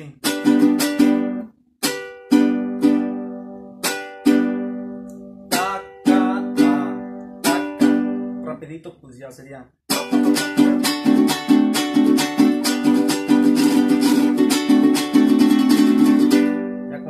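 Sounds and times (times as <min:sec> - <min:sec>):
strummed guitar chords: 0:00.0 - 0:08.5, 0:09.9 - 0:17.0.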